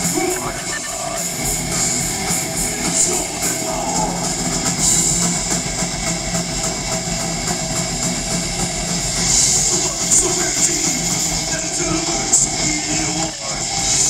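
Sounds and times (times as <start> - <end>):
bass guitar: 0.0 - 14.0
electric guitars: 0.0 - 14.0
fast drumming: 0.0 - 14.0.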